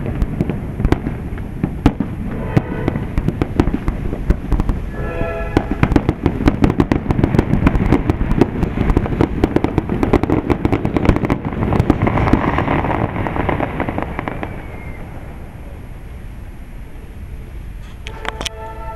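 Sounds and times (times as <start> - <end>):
fireworks cracking and popping: 0.0 - 16.2.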